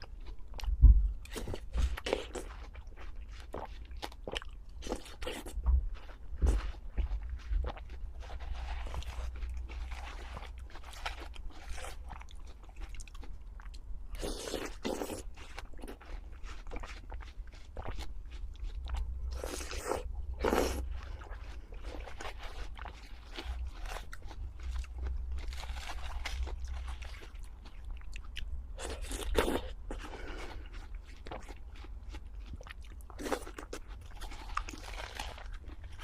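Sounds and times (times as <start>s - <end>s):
crunchy food being chewed: 0.0s - 36.0s.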